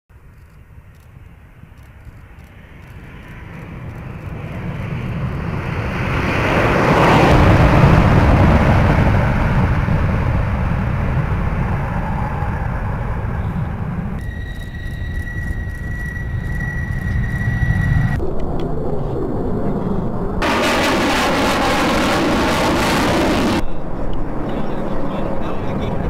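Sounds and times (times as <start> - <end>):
steady high whine: 0.1 - 26.0
jet bomber taking off: 0.7 - 26.0.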